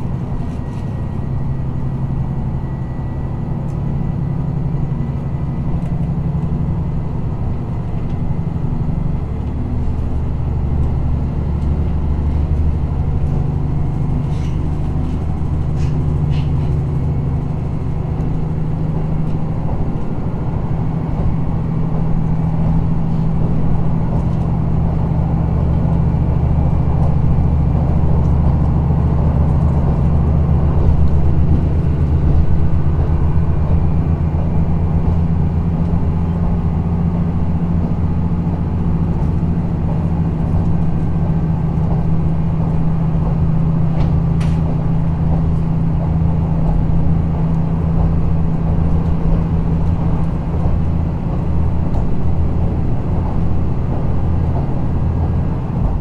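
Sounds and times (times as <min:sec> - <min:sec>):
diesel railcar engine drone: 0:00.0 - 0:56.0.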